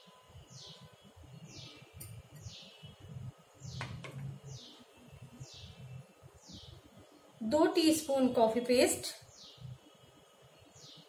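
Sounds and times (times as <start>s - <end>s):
bird chirping: 0.0s - 7.4s, 9.1s - 11.0s.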